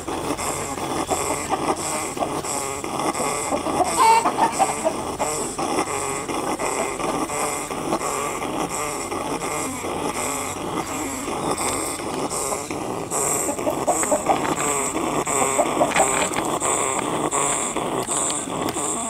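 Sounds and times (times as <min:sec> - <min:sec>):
chickens clucking: 0:00.0 - 0:19.0
chickens pecking at ground: 0:00.0 - 0:19.0
high-pitched pulsing sound: 0:00.0 - 0:19.0.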